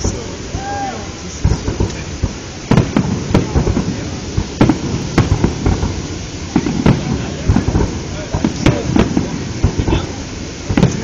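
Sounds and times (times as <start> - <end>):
constant low rumble: 0.0 - 11.0
fireworks bangs: 0.0 - 11.0.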